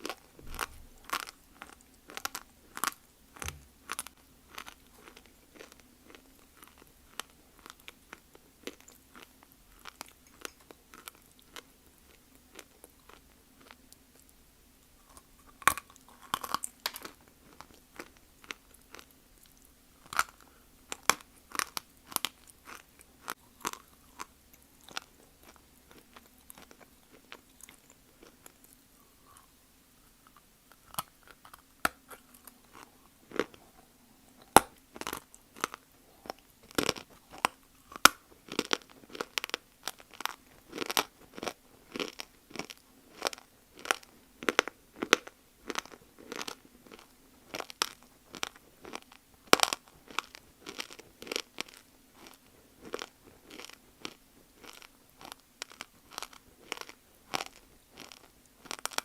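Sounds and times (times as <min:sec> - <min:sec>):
crunching and chewing clay: 0:00.0 - 0:59.0.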